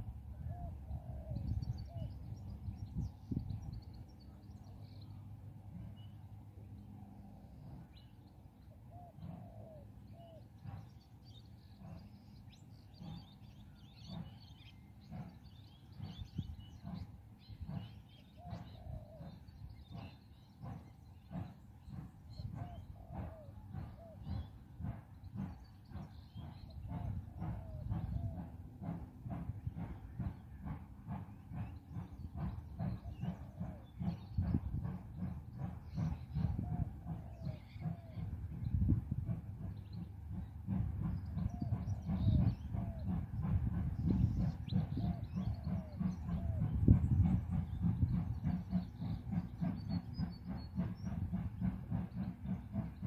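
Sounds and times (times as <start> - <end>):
distant steam locomotive exhaust beats: 0.0 - 53.0.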